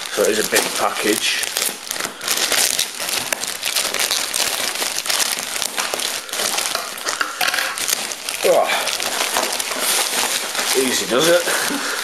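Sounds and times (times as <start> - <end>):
plastic bag and bubble wrap crinkling: 0.0 - 12.0.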